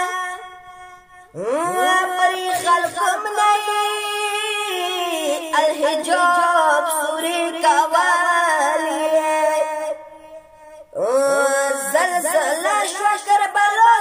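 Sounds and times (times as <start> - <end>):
boy singing unaccompanied: 0.0 - 0.5, 1.4 - 10.2, 10.9 - 14.0.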